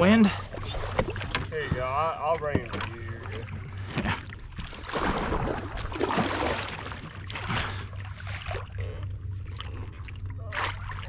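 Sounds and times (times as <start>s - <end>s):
water splashing beside kayak: 0.0s - 11.0s.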